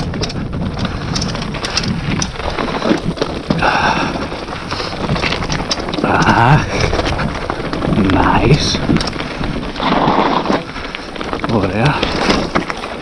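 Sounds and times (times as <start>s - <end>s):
bike parts clattering: 0.0s - 13.0s
tyres crunching on stones: 0.0s - 13.0s
wind on microphone: 0.0s - 13.0s.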